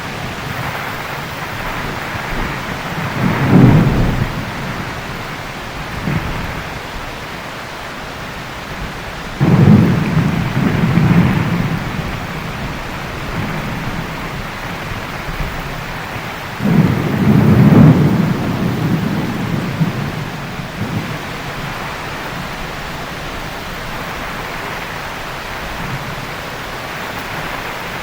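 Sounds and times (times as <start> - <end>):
thunder claps rumbling: 0.0 - 7.2, 8.8 - 28.0
heavy rain: 0.0 - 28.0.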